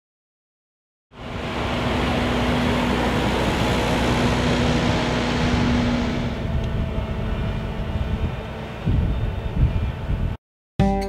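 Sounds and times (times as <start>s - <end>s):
tractor diesel engine running: 1.1s - 10.4s.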